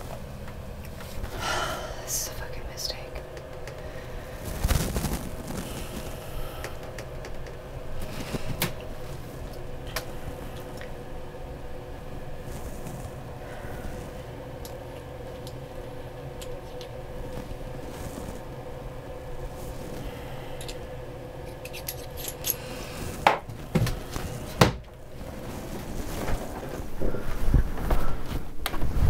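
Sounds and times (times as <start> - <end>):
faint hum: 0.0 - 29.0.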